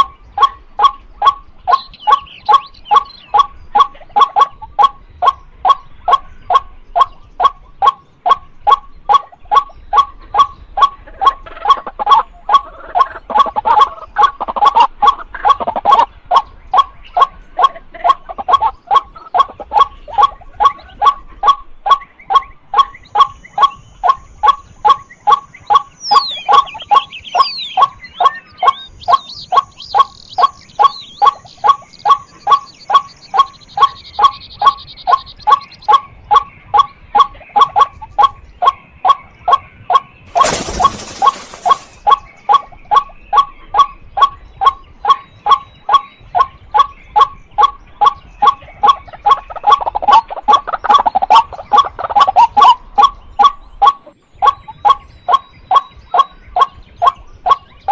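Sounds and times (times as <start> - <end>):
waterhen kwak calls: 0.0 - 57.9.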